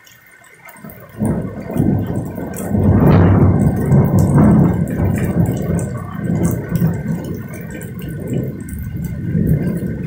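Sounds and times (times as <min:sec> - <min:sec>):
heavy rain on paving: 0:00.0 - 0:10.0.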